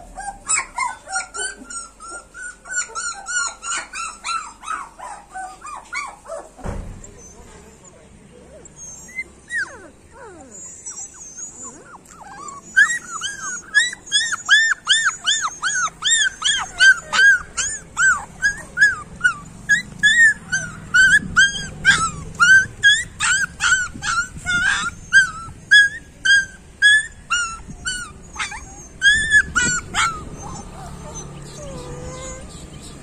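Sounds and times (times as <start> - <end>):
puppy whimpering yelps: 0.1 - 32.9.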